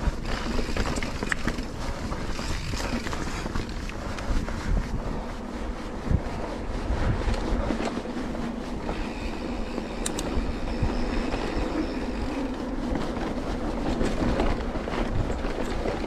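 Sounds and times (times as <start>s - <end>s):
bicycle rumbling over rough ground: 0.0s - 16.0s
wind on microphone: 0.0s - 16.0s.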